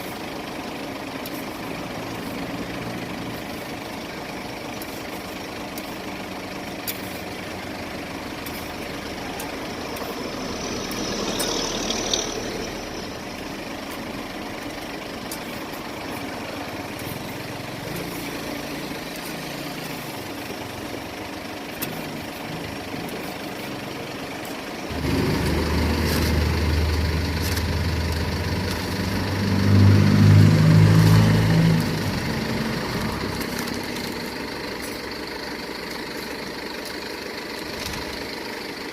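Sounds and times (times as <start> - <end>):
street background noise: 0.0 - 38.9
vehicle engine running: 0.0 - 38.9.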